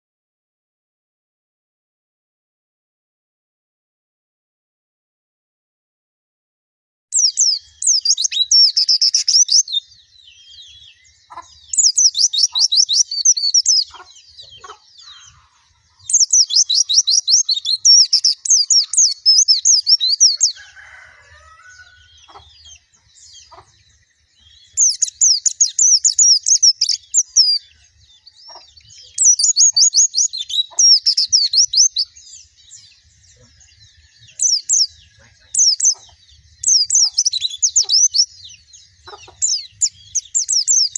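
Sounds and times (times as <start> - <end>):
bird twittering: 7.1 - 40.9.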